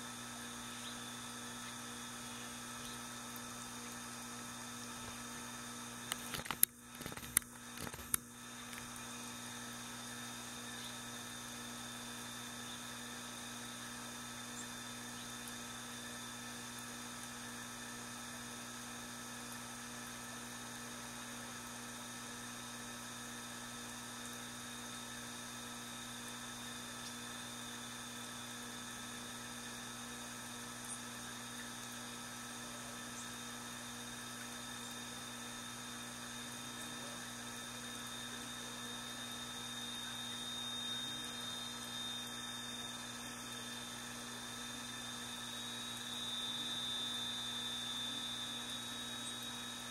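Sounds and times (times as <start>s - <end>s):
steady electrical hum: 0.0s - 49.9s.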